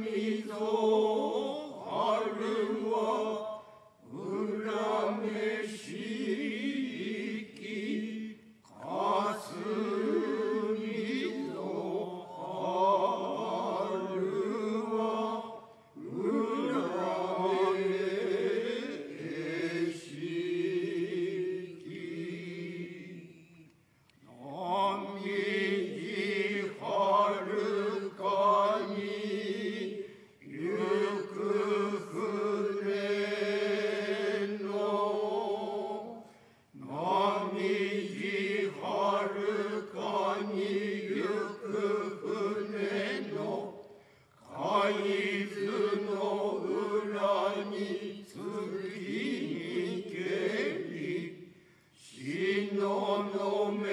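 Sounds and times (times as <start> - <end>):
group chanting: 0.0 - 23.7, 24.4 - 36.2, 36.8 - 51.5, 52.1 - 53.9.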